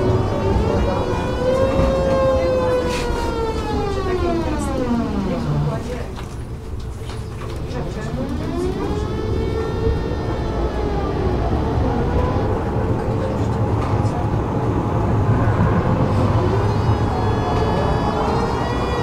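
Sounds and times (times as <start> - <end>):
low rumble of running tram: 0.0 - 19.0
tram motors whining: 0.0 - 19.0.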